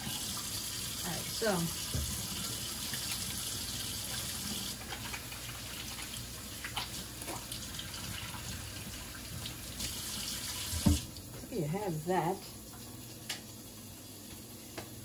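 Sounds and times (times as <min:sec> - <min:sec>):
faucet running into sink: 0:00.0 - 0:14.4.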